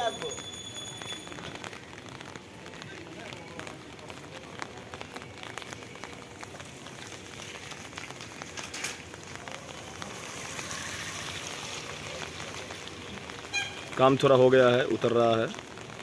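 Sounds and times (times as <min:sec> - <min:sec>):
raindrops ticking close by: 0:00.0 - 0:16.0
steady rain falling: 0:00.0 - 0:16.0.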